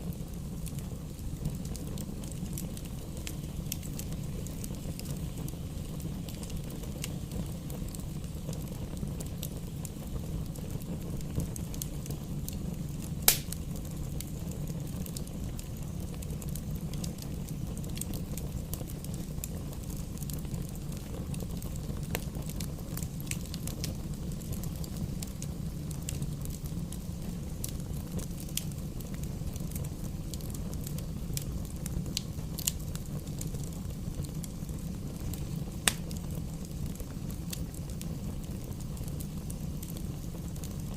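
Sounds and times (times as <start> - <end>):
bonfire crackling and popping: 0.0 - 40.9
low fire rumble: 0.0 - 40.9.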